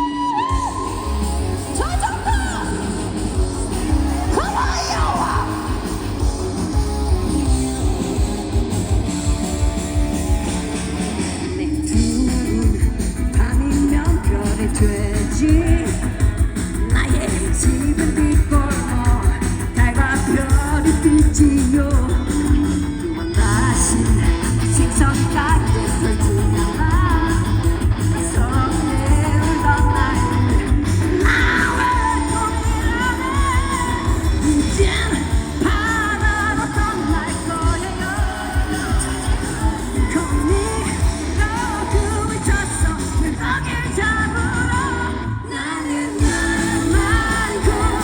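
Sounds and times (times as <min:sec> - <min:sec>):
woman singing: 0:00.0 - 0:07.4, 0:11.4 - 0:48.0
bass: 0:00.0 - 0:48.0
drums: 0:00.0 - 0:48.0
electric guitars: 0:00.0 - 0:48.0.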